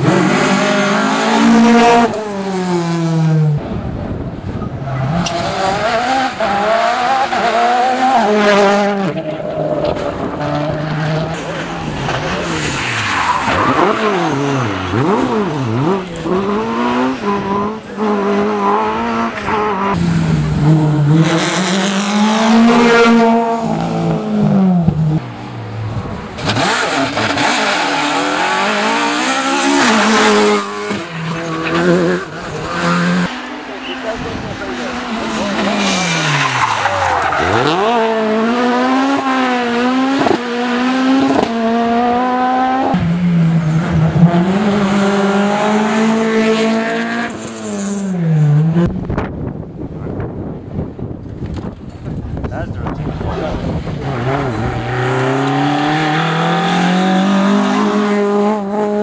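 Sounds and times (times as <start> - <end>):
rally car engines racing past: 0.0 - 51.7, 52.8 - 59.0.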